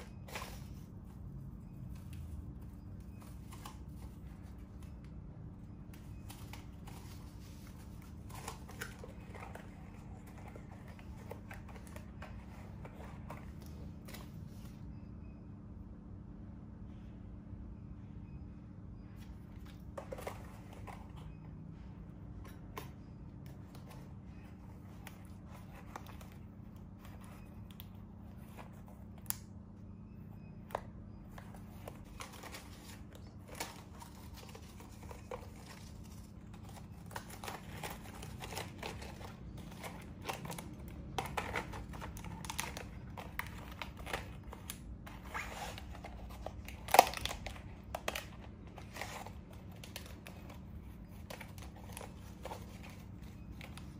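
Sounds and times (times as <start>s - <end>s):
paper rustling and crinkling: 0.0s - 14.8s, 19.3s - 29.4s, 30.7s - 53.9s.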